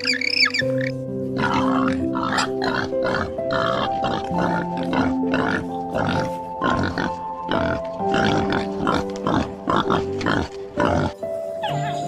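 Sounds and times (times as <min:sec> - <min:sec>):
pigs grunting: 0:00.0 - 0:12.0
soft instrumental music: 0:00.0 - 0:12.0.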